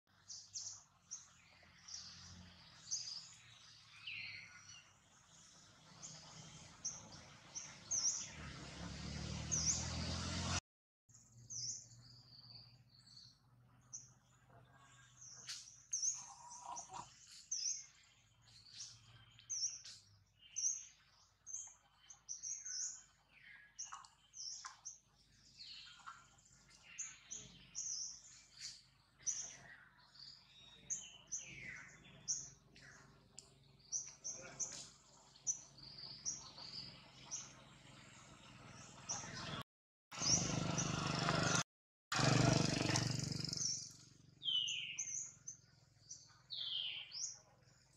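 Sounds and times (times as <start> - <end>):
birds chirping: 0.1 - 10.5, 11.4 - 41.6, 42.3 - 47.9.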